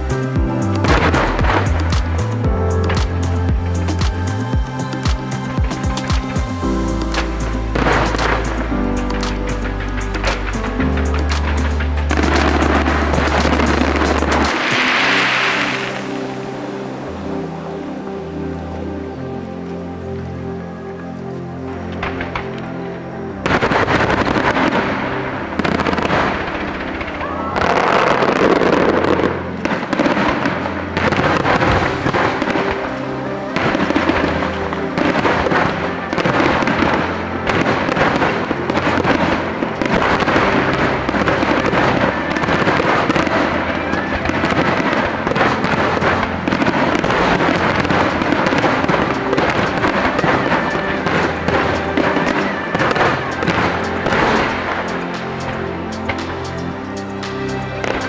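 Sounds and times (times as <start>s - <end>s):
fireworks bursting and crackling: 0.0s - 17.8s, 23.4s - 58.0s
background music: 0.0s - 58.0s.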